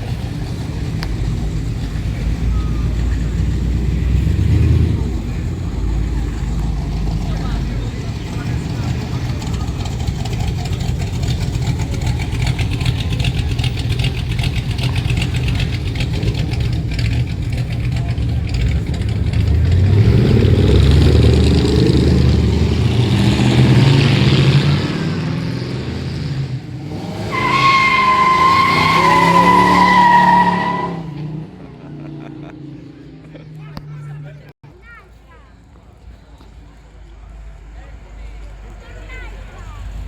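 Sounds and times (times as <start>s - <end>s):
engine revving: 0.0s - 33.2s
car engines rumbling past: 0.0s - 40.0s.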